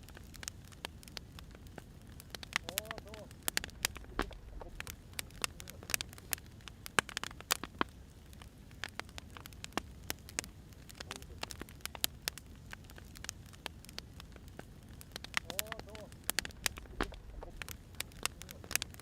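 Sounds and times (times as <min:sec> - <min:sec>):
firewood crackling and popping: 0:00.0 - 0:19.0
low rumble of fire: 0:00.0 - 0:19.0.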